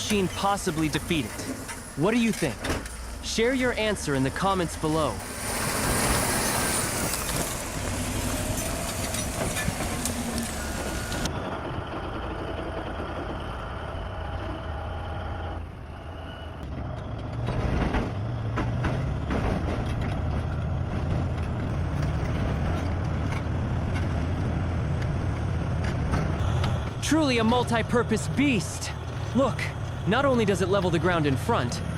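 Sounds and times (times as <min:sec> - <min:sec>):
bulldozer diesel engine droning: 0:00.0 - 0:31.9.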